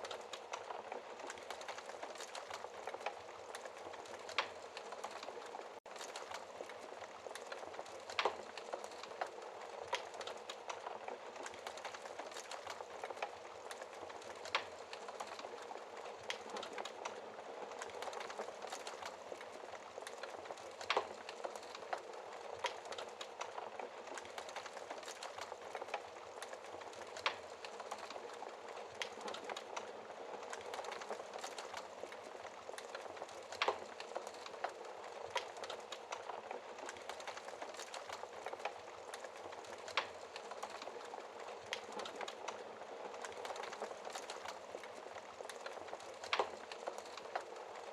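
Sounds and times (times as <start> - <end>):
fire crackling: 0.0 - 47.9
fire popping: 0.0 - 47.9.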